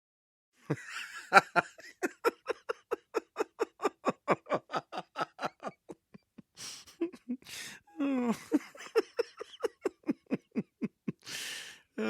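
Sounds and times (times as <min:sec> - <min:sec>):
man laughing uncontrollably: 0:00.7 - 0:11.7.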